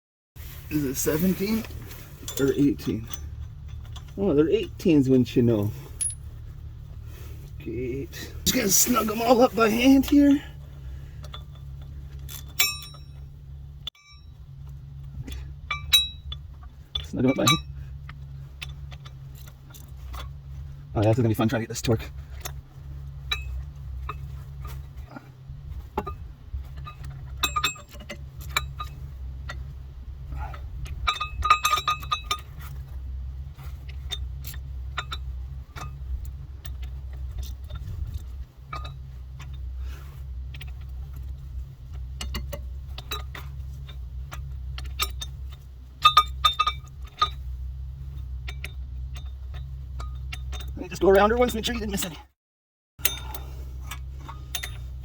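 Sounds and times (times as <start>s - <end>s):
low hum: 0.4s - 52.2s, 53.0s - 55.0s
metal tools clinking: 0.5s - 52.2s, 53.0s - 55.0s
ringing metallic jingles: 0.7s - 52.2s, 53.0s - 55.0s.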